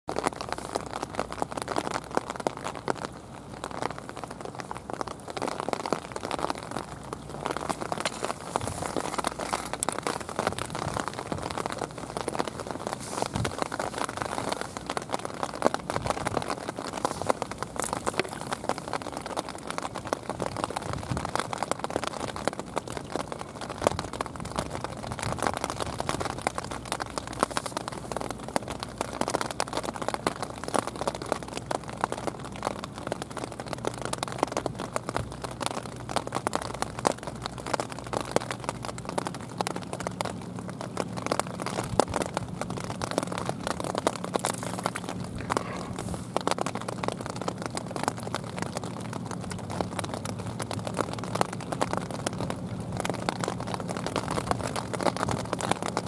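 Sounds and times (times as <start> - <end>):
sharp ticks of raindrops: 0.0 - 56.0
steady rain hiss: 0.0 - 56.0.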